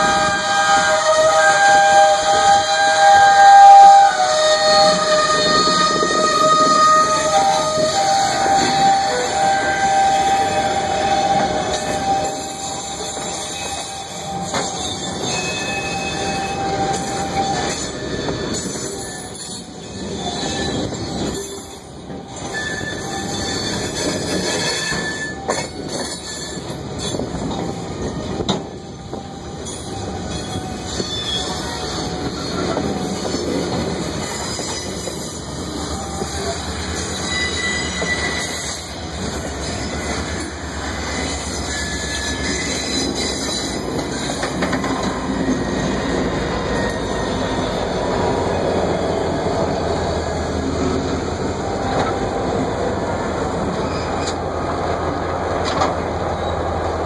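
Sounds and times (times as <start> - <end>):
diesel locomotive engine drone: 0.0 - 57.0
steel wheels squealing on rail: 0.0 - 57.0.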